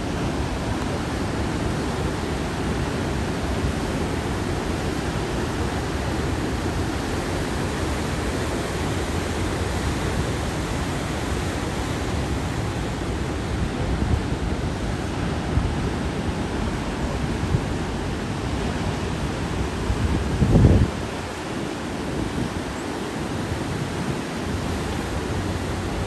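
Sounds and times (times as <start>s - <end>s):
ocean waves breaking: 0.0s - 26.0s
wind rumble on microphone: 0.0s - 26.0s.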